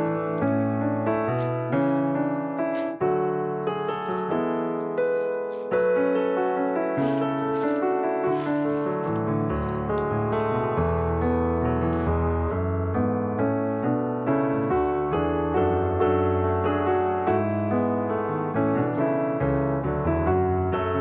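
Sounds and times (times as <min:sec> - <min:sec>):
instrumental piano music: 0:00.0 - 0:21.0.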